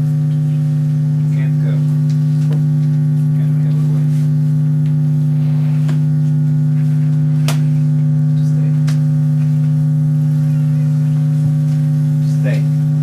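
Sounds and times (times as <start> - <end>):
low electronic drone: 0.0 - 13.0.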